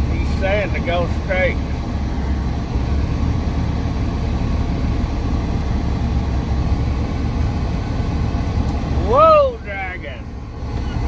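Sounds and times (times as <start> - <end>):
truck diesel engine rumble: 0.0 - 11.0.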